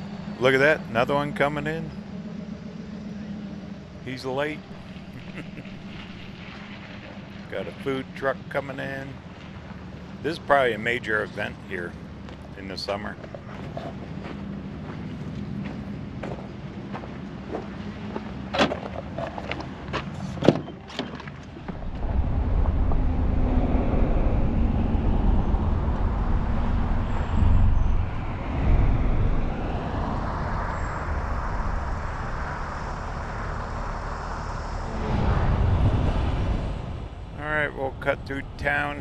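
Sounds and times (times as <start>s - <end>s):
van engine and road rumble: 0.0s - 39.0s.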